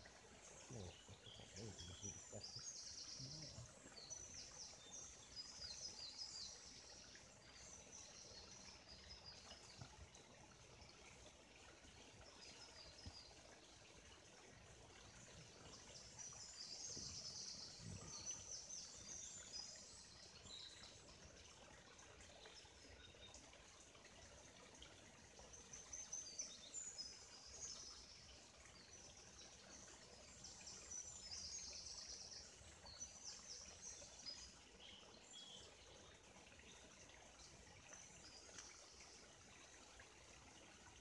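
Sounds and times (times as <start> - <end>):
faint steady hiss: 0.0 - 41.0
songbirds twittering: 0.1 - 23.6, 25.3 - 39.7.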